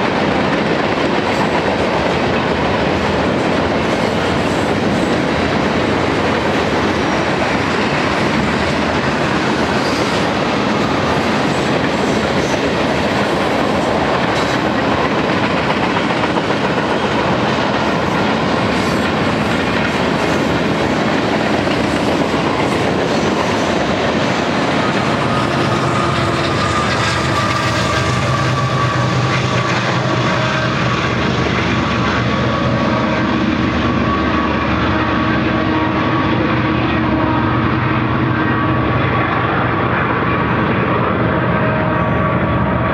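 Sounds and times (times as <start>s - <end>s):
steel wheels rumbling on rails: 0.0s - 42.9s
steady multi-tone whine: 4.8s - 42.9s.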